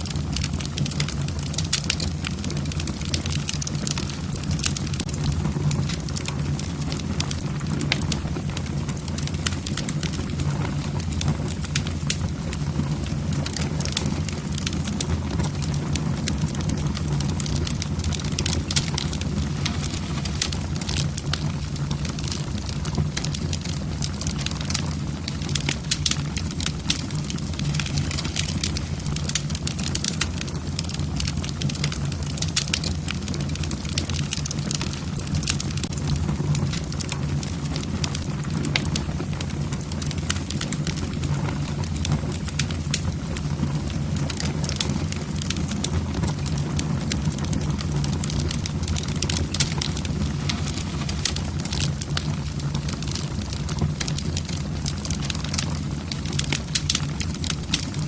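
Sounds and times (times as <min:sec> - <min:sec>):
burning wood crackling: 0:00.0 - 0:58.0
low rumble of flames: 0:00.0 - 0:58.0.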